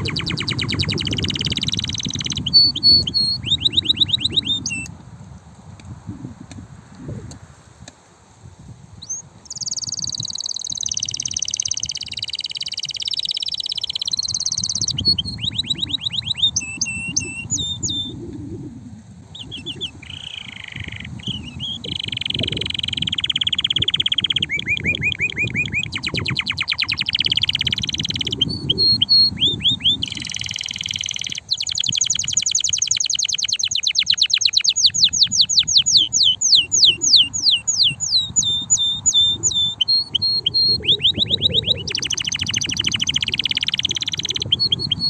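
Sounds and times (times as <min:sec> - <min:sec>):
canary singing trills: 0:00.0 - 0:04.9, 0:09.0 - 0:45.0.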